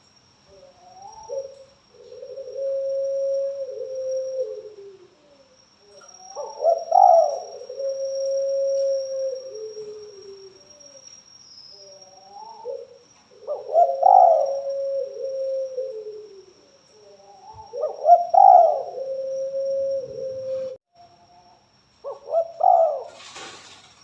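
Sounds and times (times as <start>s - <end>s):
dove cooing: 0.5s - 11.0s, 11.8s - 23.8s.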